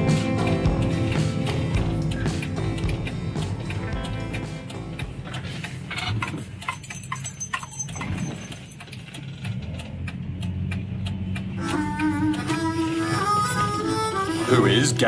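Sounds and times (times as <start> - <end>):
car engine running at low speed: 0.0 - 12.6.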